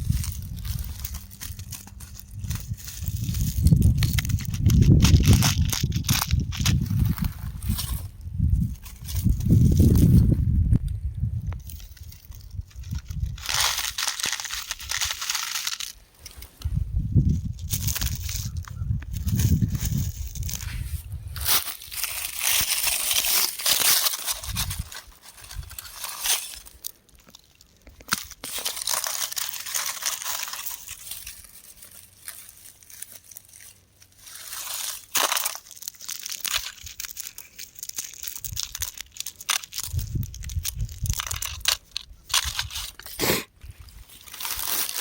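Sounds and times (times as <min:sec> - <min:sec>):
rock crumbling and crunching: 0:00.0 - 0:45.0.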